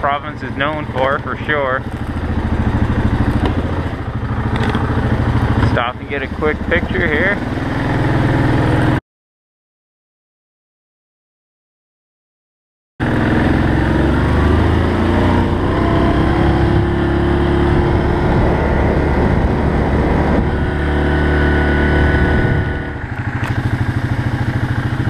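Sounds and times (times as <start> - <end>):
atv engine running: 0.0 - 9.0, 13.0 - 25.0.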